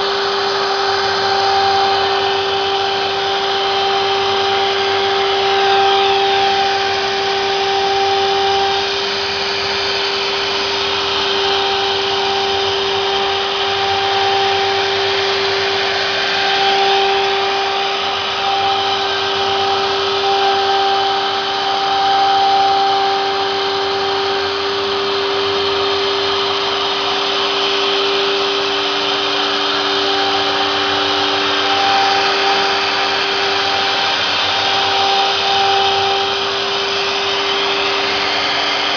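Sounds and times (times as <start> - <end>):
router spindle whine: 0.0 - 38.9
vacuum pump running: 0.0 - 38.9.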